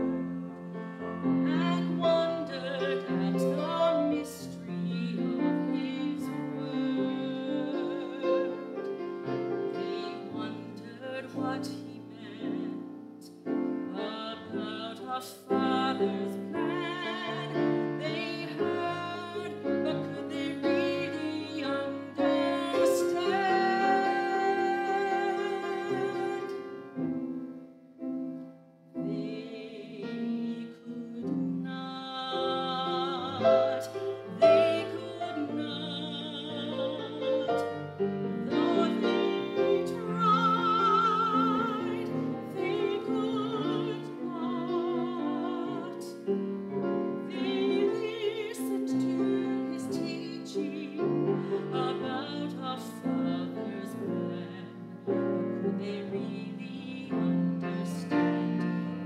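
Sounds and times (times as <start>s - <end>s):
grand piano: 0.0s - 59.0s
woman singing with vibrato: 1.2s - 8.8s, 9.7s - 13.0s, 13.8s - 26.7s, 29.0s - 46.3s, 47.2s - 58.6s.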